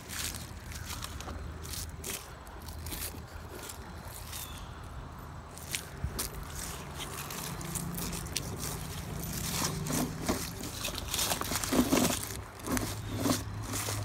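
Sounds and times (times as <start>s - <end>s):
wheels crunching dry leaves: 0.0s - 14.0s.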